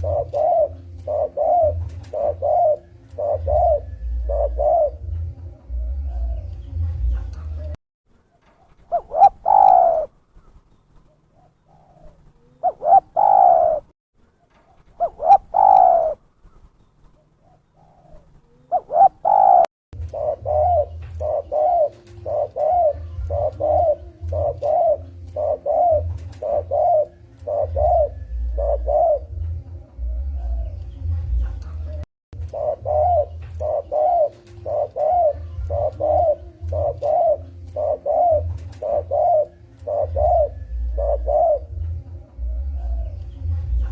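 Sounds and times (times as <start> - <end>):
dove cooing: 0.0 - 7.8, 8.6 - 10.2, 11.3 - 13.9, 14.8 - 16.2, 17.4 - 43.9.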